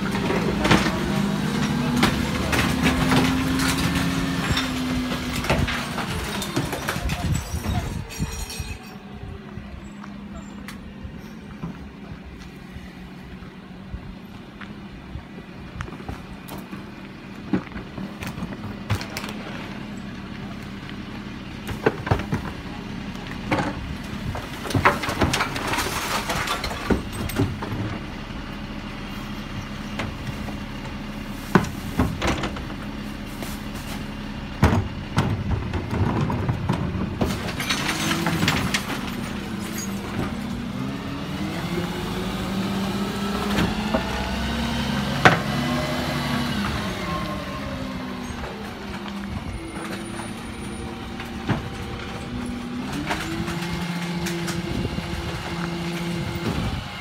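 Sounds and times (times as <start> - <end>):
bins banging and clattering: 0.0 - 9.1, 16.0 - 20.1, 21.6 - 28.5, 29.6 - 57.0
diesel engine running: 0.0 - 57.0.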